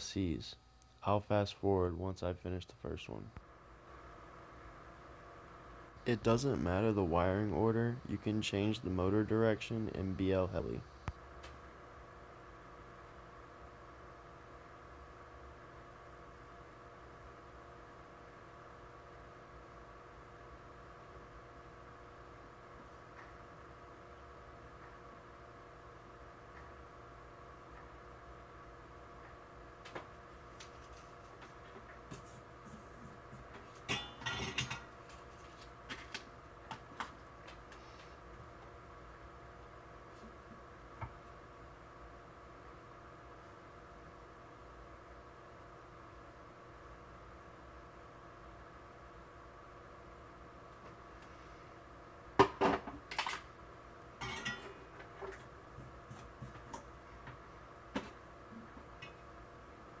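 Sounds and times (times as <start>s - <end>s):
faint steady hum: 0.0s - 60.0s.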